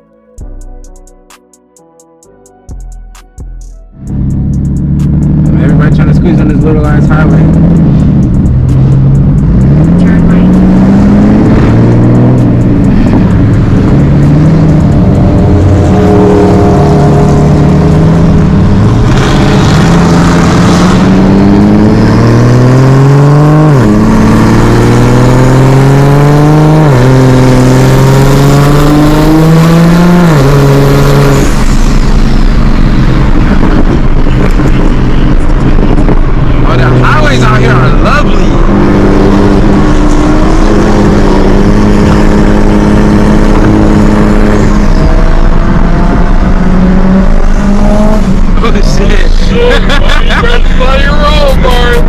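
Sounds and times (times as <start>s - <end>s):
car engine accelerating: 4.0s - 52.0s.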